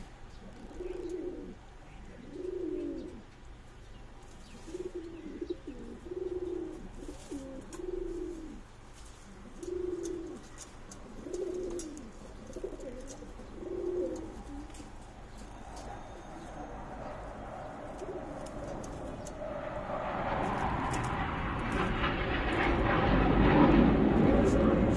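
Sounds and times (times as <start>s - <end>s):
pigeons cooing: 0.0s - 3.4s, 4.3s - 22.1s.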